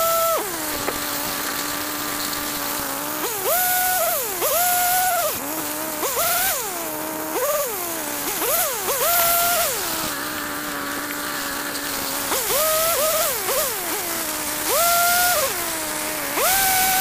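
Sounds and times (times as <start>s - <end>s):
chainsaw idling: 0.0s - 17.0s
chainsaw revving: 0.0s - 17.0s.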